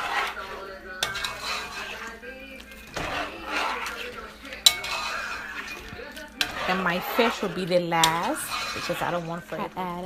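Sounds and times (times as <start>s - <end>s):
spoon scraping and clinking in pot: 0.0s - 10.0s.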